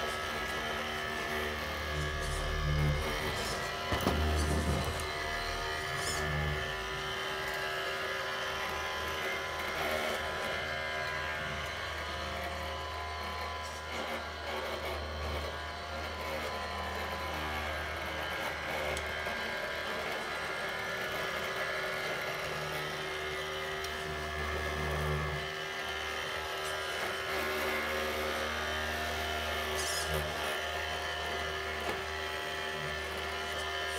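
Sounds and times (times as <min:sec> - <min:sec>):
small electric motors whining: 0:00.0 - 0:33.9.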